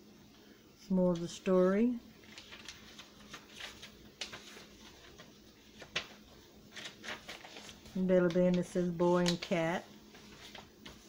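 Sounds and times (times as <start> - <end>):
paper rustling: 1.1 - 11.0.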